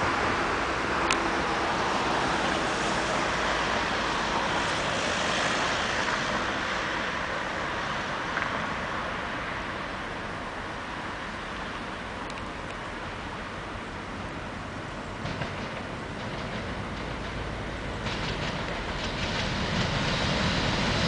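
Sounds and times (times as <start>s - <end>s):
road traffic rush: 0.0s - 21.0s.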